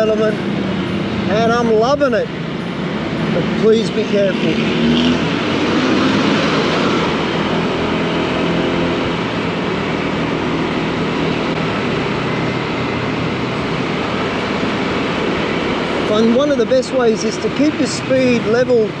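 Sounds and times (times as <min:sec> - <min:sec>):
rushing wind: 0:00.0 - 0:19.0
scooter engine drone: 0:00.0 - 0:19.0
surrounding traffic noise: 0:00.0 - 0:19.0.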